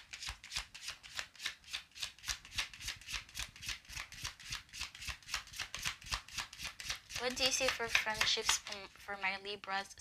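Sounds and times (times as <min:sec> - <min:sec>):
cards being shuffled: 0:00.0 - 0:09.8.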